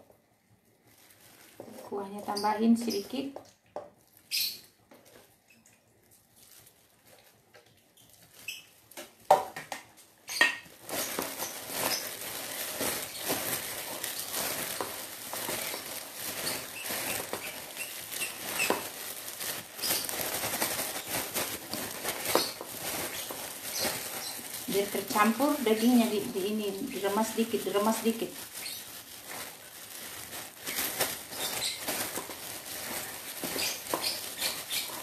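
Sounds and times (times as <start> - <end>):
gloved hand squishing rice: 0.1 - 9.3, 10.7 - 35.0.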